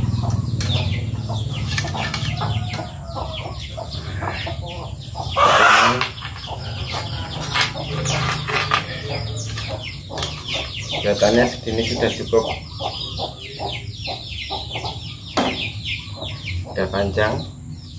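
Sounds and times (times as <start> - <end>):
birds calling: 0.0 - 17.9.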